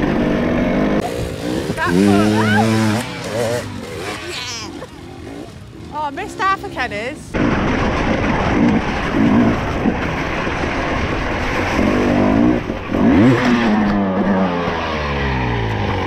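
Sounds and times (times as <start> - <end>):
dirt bike engine revving: 0.0 - 16.0
track noise: 0.0 - 16.0.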